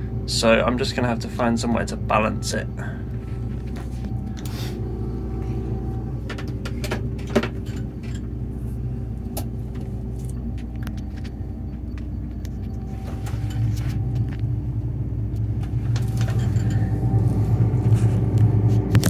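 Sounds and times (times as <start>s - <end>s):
engine hum from inside cab: 0.0s - 19.0s.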